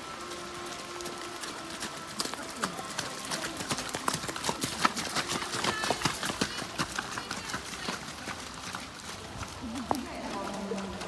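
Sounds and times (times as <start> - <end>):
hoofbeats trotting on sand: 0.0 - 11.0.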